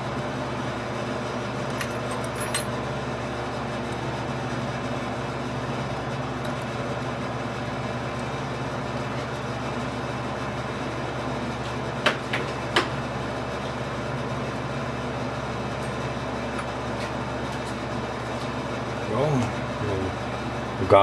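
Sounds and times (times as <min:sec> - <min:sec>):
shop machinery humming: 0:00.0 - 0:21.0.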